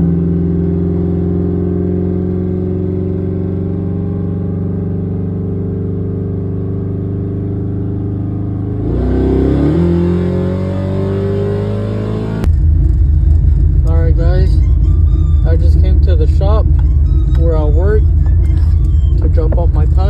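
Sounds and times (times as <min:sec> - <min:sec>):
truck engine accelerating: 0:00.0 - 0:20.0.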